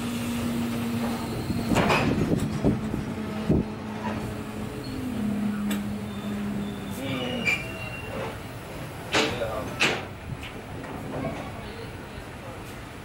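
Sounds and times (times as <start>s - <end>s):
train carriage hum and rumble: 0.0s - 13.0s.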